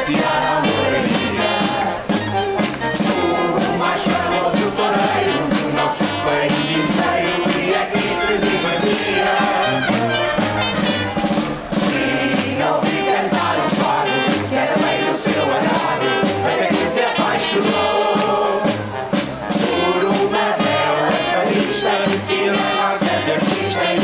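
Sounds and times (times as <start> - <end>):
people singing in chorus: 0.0 - 19.0, 19.6 - 24.0
brass band playing march: 0.0 - 24.0.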